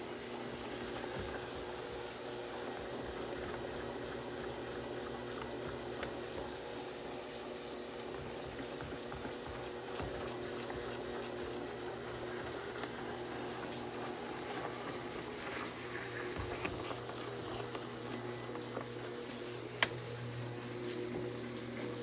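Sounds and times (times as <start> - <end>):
spin mop motor humming: 0.0 - 22.0.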